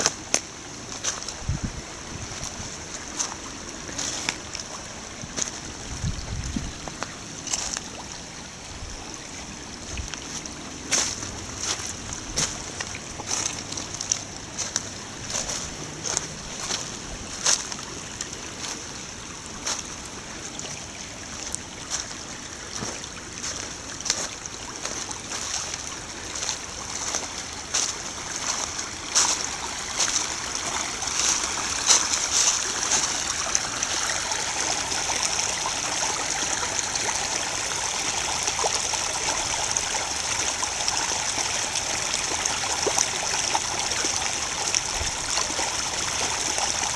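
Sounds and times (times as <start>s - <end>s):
stream babbling over gravel: 0.0s - 46.9s.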